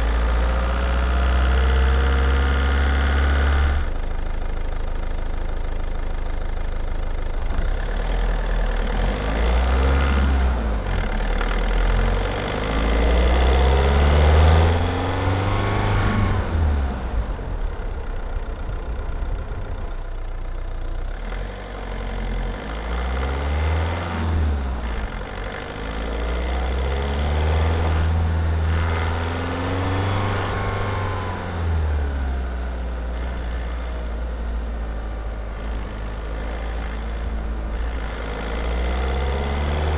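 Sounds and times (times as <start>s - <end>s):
diesel engine revving: 0.0s - 4.3s, 7.1s - 39.9s.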